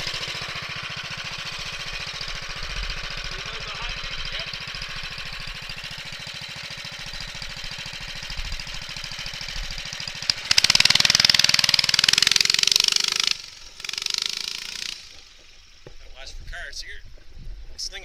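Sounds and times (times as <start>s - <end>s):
small motorcycle engine revving: 0.0s - 16.1s.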